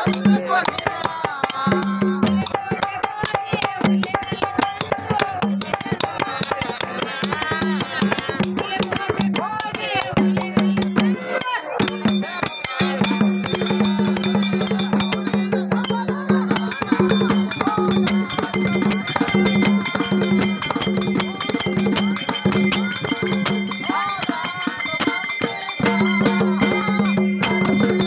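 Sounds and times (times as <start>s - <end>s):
dhol drums beating: 0.0s - 28.0s
person singing: 0.0s - 28.0s
small bells jingling: 0.0s - 28.0s.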